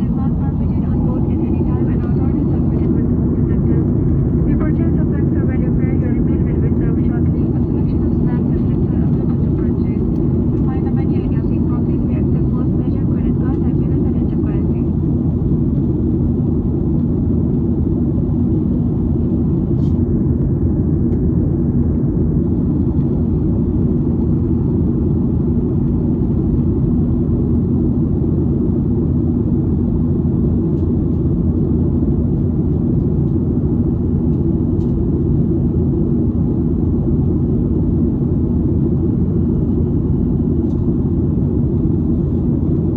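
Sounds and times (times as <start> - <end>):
airliner cabin engine drone: 0.0 - 42.9
faint steady hum: 0.0 - 42.9.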